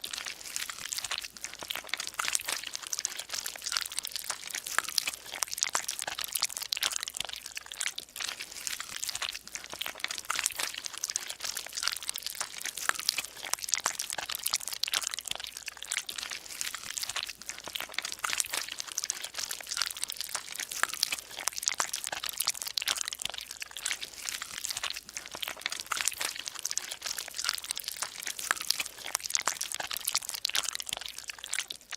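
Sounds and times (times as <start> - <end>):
dense crackling and crunching: 0.0 - 31.9.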